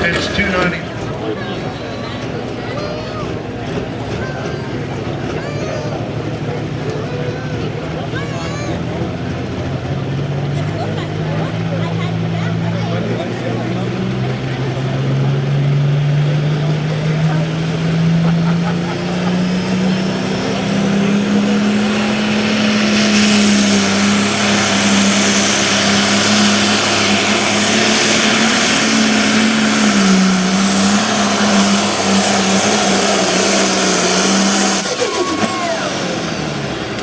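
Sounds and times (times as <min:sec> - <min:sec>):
tractor engine at full throttle: 0:00.0 - 0:37.0.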